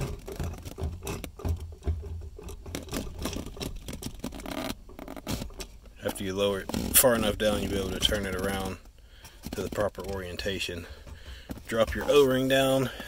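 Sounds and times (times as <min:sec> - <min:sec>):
plastic scraping and rustling: 0:00.0 - 0:13.0.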